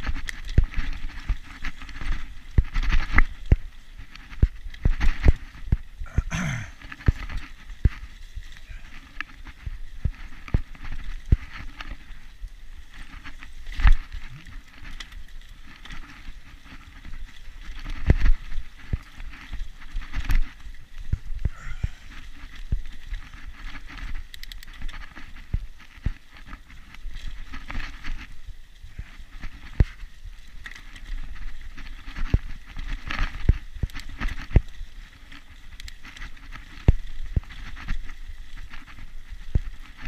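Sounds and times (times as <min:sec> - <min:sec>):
bike knocking and rattling: 0:00.0 - 0:40.0
bike tyres rolling on dirt: 0:00.0 - 0:40.0.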